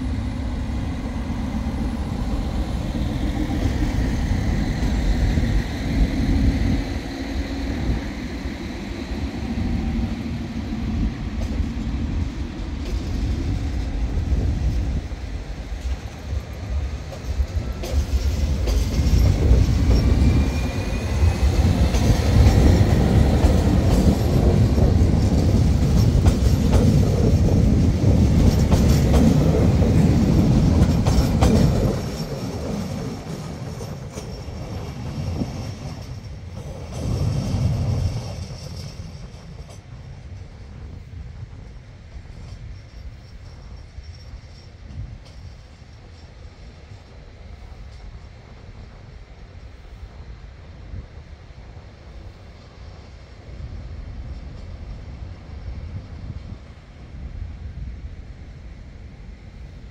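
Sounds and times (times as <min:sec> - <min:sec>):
diesel train engines: 0:00.0 - 0:59.9
train wheels on rail: 0:00.0 - 0:59.9.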